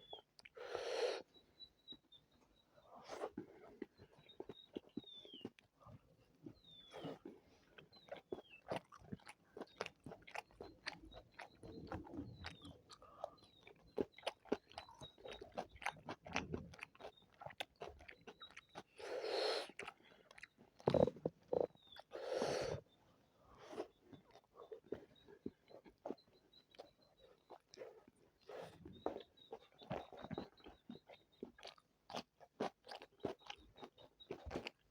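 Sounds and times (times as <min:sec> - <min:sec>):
chewing and biting crunches: 0:03.0 - 0:22.9, 0:23.6 - 0:34.9.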